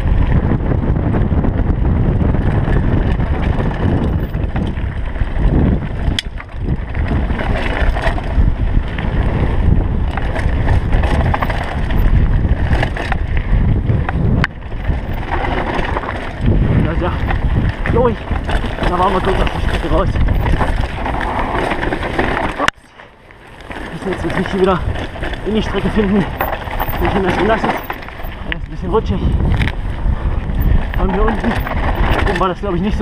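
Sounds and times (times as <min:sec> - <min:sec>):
wind rushing on microphone: 0:00.0 - 0:22.7, 0:23.5 - 0:33.0
bike rattle: 0:00.0 - 0:33.0
tyres on loose gravel: 0:00.0 - 0:33.0.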